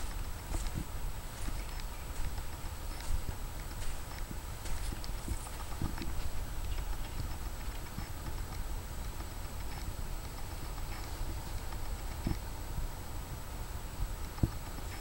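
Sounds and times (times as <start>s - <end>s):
faint high whine: 0.0s - 15.0s
steady low rumble: 0.0s - 15.0s.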